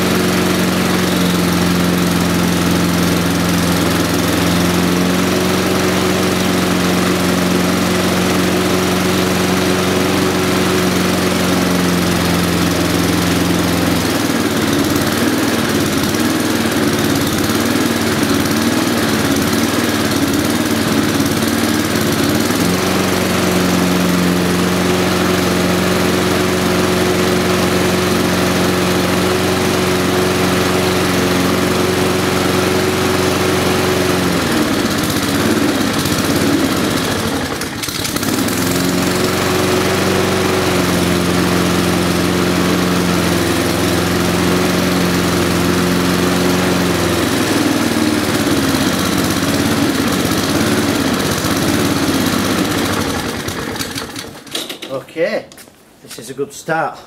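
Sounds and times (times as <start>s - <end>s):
lawnmower engine running: 0.0s - 55.1s.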